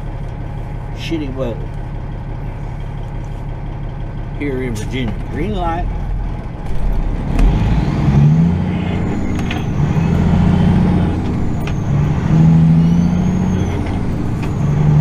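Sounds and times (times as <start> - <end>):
diesel truck engine accelerating: 0.0 - 15.0.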